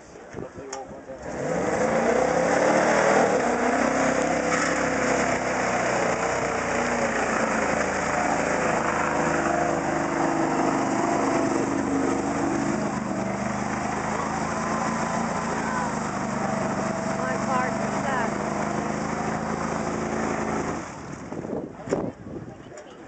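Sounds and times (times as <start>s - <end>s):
truck engine at high revs: 1.2s - 22.1s
tires spinning in mud: 1.2s - 22.2s.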